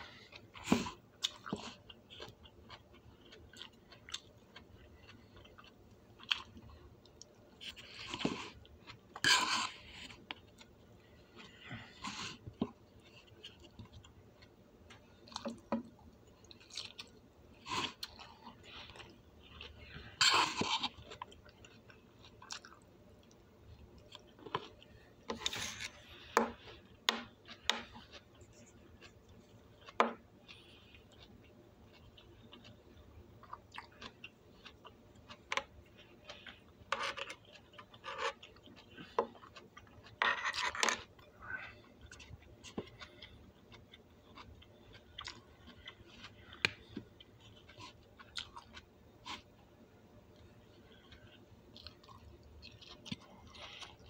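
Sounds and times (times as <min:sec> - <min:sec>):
person chewing crunchy food: 0:00.0 - 0:49.6, 0:50.3 - 0:54.0.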